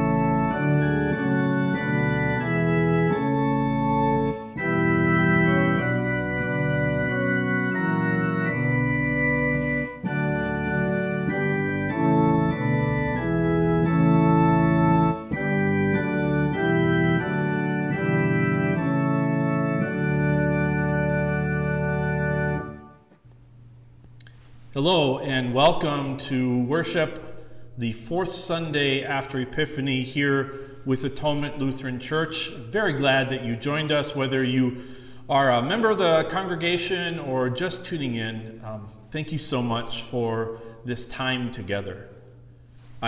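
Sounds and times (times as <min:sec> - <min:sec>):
organ chords: 0:00.0 - 0:43.0.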